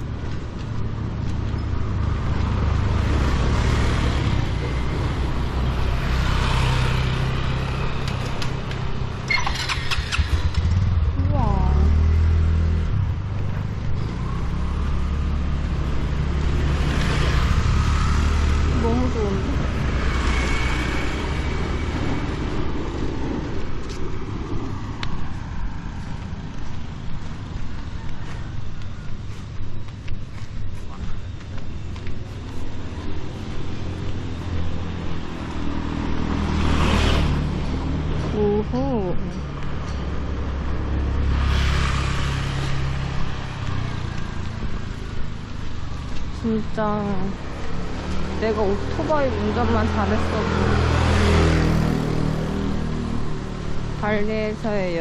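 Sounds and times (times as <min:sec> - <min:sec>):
vehicle passing: 0:00.0 - 0:29.4, 0:30.3 - 0:55.0
vehicle engine running: 0:00.0 - 0:55.0.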